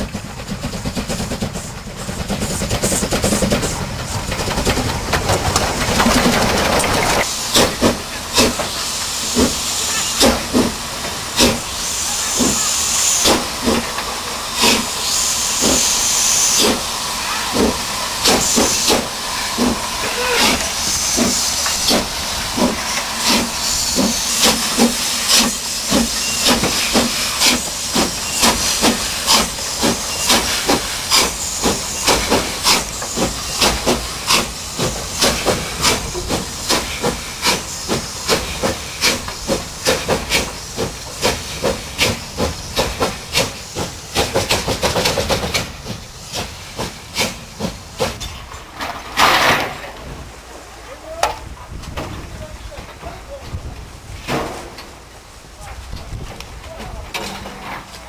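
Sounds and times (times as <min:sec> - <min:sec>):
steam locomotive exhaust beating: 0:00.0 - 0:48.4
hiss of escaping steam: 0:00.1 - 0:04.8, 0:06.9 - 0:50.8.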